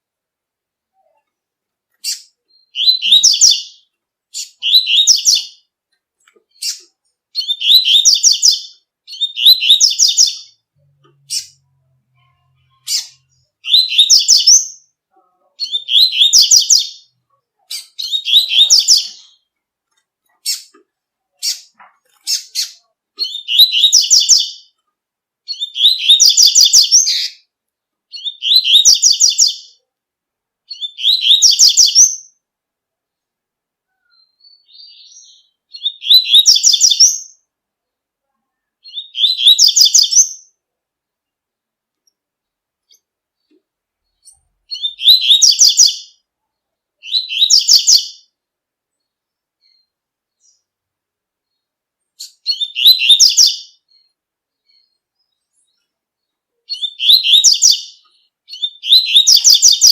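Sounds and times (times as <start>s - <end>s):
bird singing high phrases: 0.9s - 5.7s, 6.5s - 19.6s, 20.2s - 24.8s, 25.4s - 27.5s, 28.1s - 29.9s, 30.7s - 32.5s, 33.9s - 37.5s, 38.5s - 40.6s, 42.4s - 46.3s, 47.0s - 50.8s, 51.4s - 59.9s.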